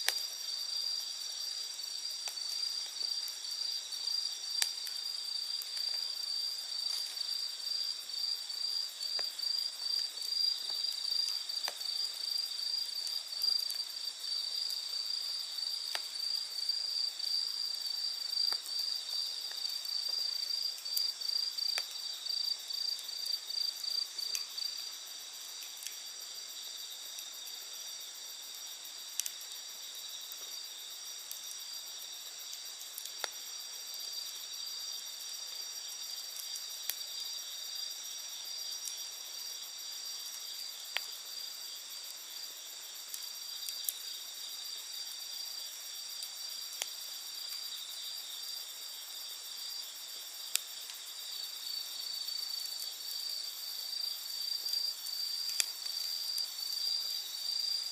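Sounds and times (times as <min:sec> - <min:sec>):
campfire pops and crackles: 0:00.0 - 0:57.9
night insects trilling: 0:00.0 - 0:57.9.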